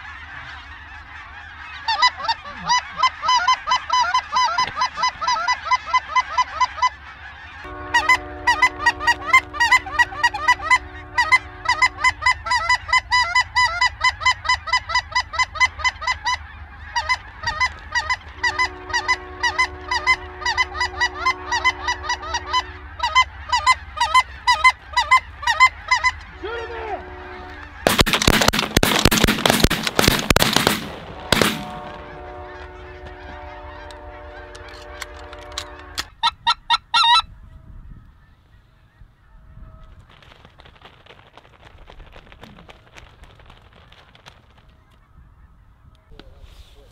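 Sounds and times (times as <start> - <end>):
geese honking: 0.0 - 40.6.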